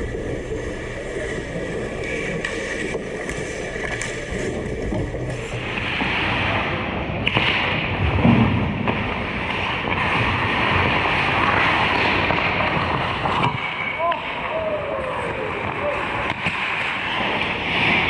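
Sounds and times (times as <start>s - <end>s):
sticks and puck clacking: 1.3s - 6.6s, 7.2s - 18.0s.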